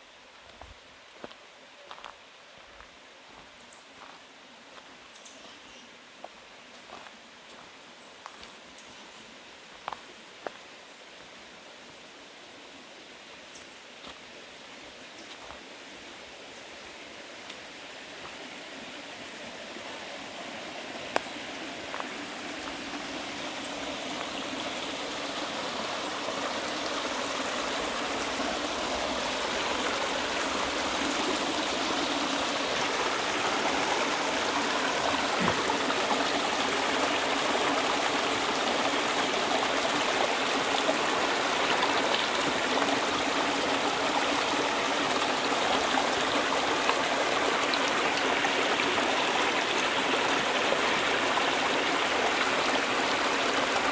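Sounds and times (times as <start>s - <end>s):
creek water rushing: 0.0s - 53.9s.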